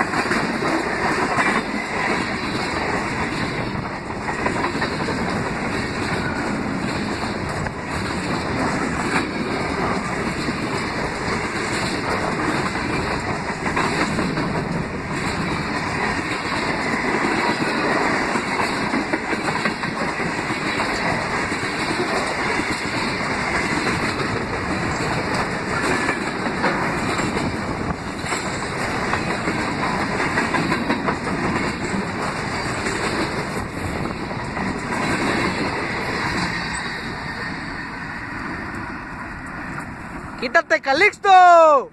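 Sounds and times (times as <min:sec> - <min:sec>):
train wheels clacking over rail joints: 0:00.0 - 0:40.2.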